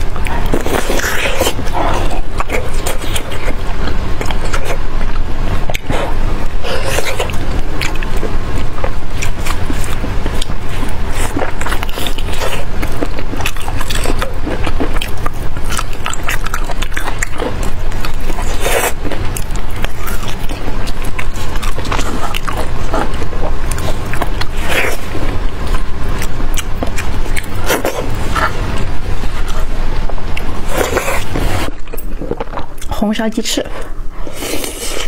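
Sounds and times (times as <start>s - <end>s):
person chewing meat: 0.0s - 32.9s, 33.7s - 35.0s.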